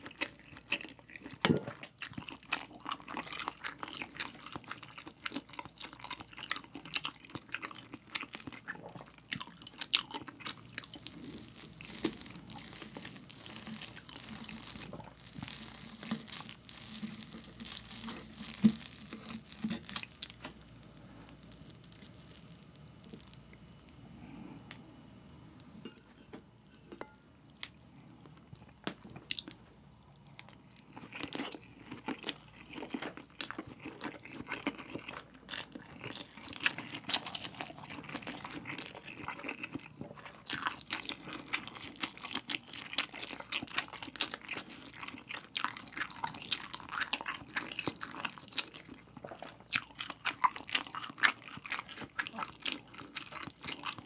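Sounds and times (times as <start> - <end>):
chewing and wet mouth sounds: 0.0 - 24.5, 27.5 - 29.6, 30.2 - 54.0.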